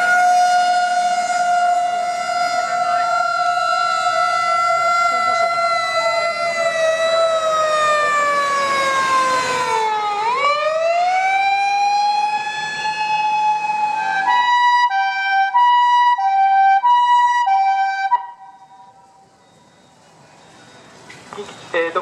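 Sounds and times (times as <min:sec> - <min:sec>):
electronic siren wailing: 0:00.0 - 0:19.2.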